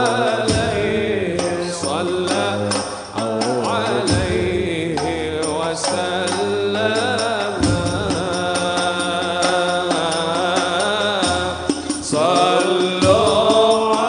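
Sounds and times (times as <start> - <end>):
accompanying instruments: 0.0 - 14.0
man singing ornamented held notes: 0.0 - 14.0
steady drum beat: 0.0 - 14.0.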